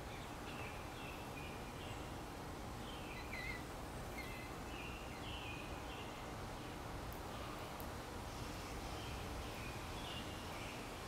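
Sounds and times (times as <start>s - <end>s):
faint songbird chirps: 0.0s - 2.2s, 2.8s - 11.0s
low outdoor background hum: 0.0s - 11.0s.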